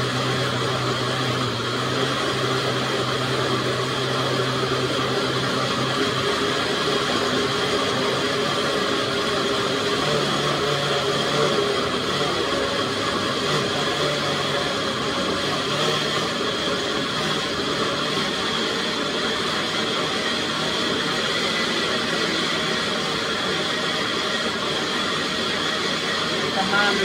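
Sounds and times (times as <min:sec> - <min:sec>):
blender motor running: 0:00.0 - 0:27.0.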